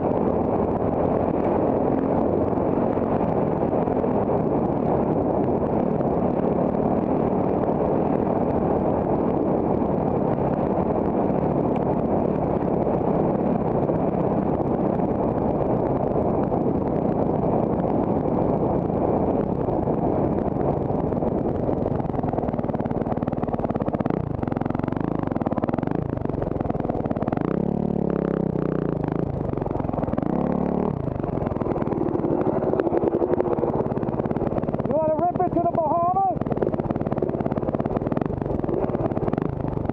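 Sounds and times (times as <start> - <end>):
dirt bike engine running: 0.0 - 39.9
wind on microphone: 0.0 - 39.9.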